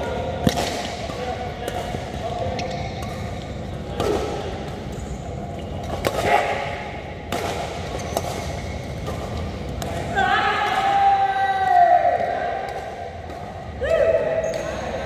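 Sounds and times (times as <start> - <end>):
rackets hitting shuttlecock: 0.1 - 11.0, 11.6 - 14.9.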